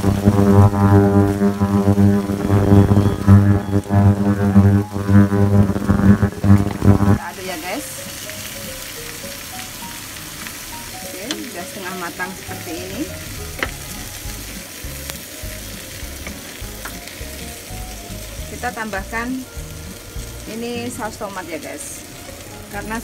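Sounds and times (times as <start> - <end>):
background music: 0.0 - 23.0
shrimp sizzling in a pan: 0.0 - 23.0.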